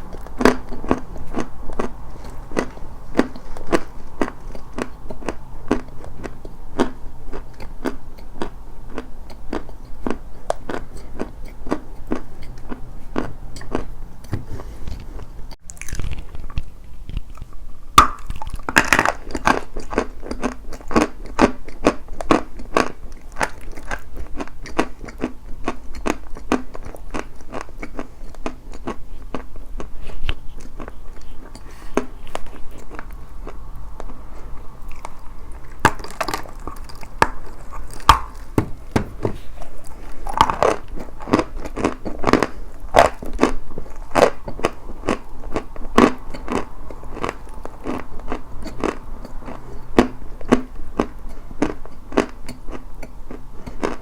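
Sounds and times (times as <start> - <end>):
chalk crunching while chewed: 0.0 - 54.0.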